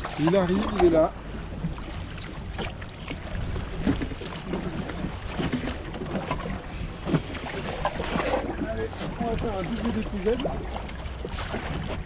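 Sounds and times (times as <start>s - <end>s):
water washing against boat hull: 0.0s - 12.0s.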